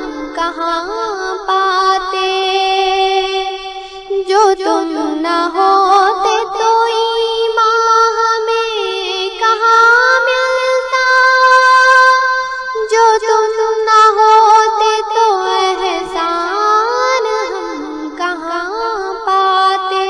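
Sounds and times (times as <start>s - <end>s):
high solo voice singing: 0.0s - 20.0s.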